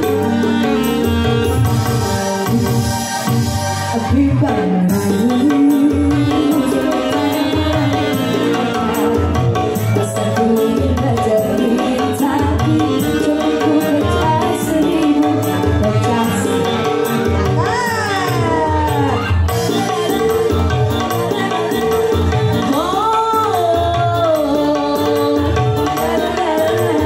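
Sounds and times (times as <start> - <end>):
women singing into microphones: 0.0 - 2.2, 3.7 - 27.0
electronic keyboard: 0.0 - 27.0
hand drum rhythm: 0.0 - 27.0.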